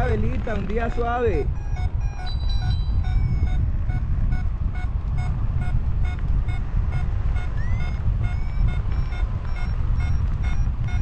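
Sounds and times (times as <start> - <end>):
wind on microphone: 0.0 - 11.0
variometer beeping: 1.4 - 11.0.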